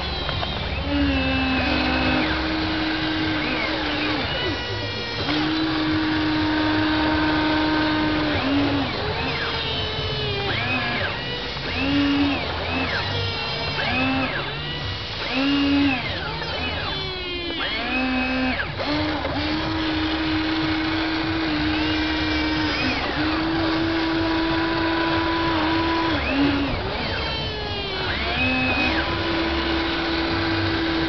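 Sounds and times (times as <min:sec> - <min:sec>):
toy excavator motors whining: 0:00.0 - 0:31.0.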